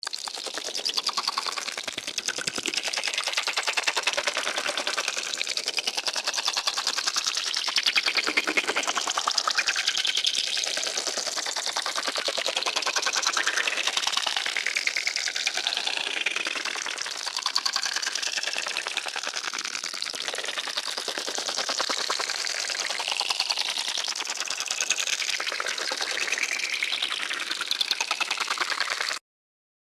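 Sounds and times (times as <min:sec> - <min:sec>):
alien creature clicking chatter: 0:00.0 - 0:29.2.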